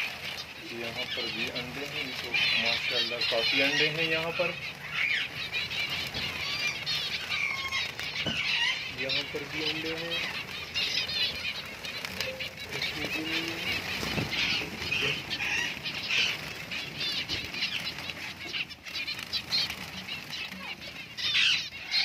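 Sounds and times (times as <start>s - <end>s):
finches chirping: 0.0s - 22.0s
wings flapping: 0.0s - 22.0s.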